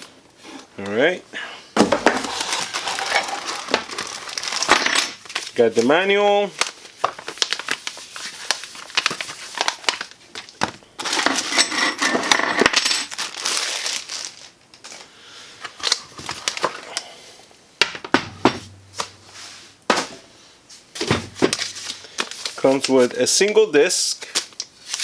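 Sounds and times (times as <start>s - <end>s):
plastic and cardboard rustling: 1.8s - 17.0s, 18.2s - 23.5s.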